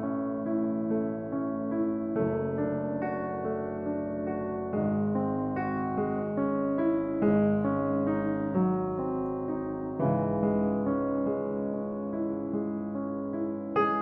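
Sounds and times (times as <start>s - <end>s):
piano chords and melody: 0.0s - 14.0s.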